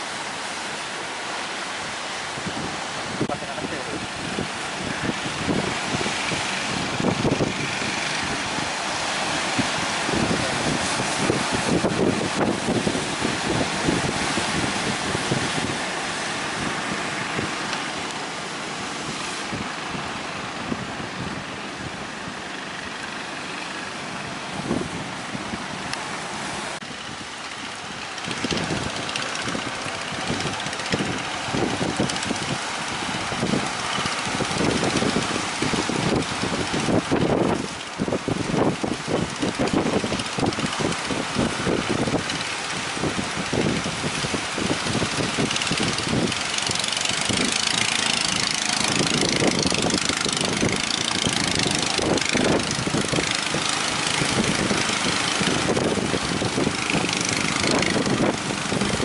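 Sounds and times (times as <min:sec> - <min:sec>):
wind buffeting microphone: 0:01.6 - 0:59.0
strong wind rushing: 0:01.8 - 0:59.0.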